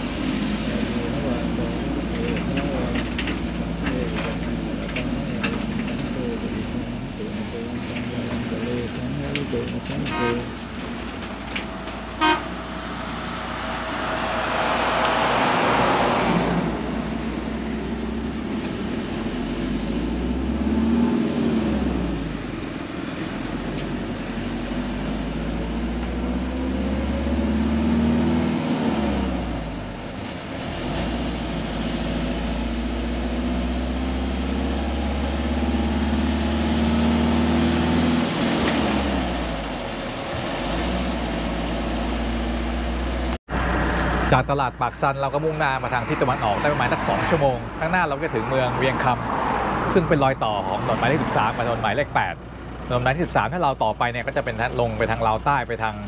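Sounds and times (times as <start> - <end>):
road and wind noise: 0.0 - 56.0
truck engine accelerating: 0.0 - 56.0.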